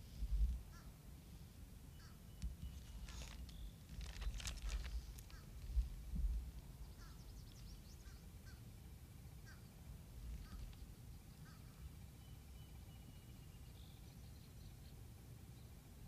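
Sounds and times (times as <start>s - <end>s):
faint bird calls: 0.0s - 15.8s
steady low rumble: 0.0s - 16.0s.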